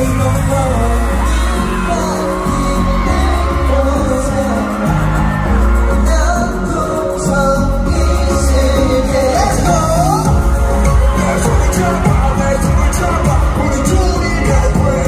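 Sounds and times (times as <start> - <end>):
man singing over backing track: 0.0 - 15.0
strong bass beat: 0.0 - 15.0.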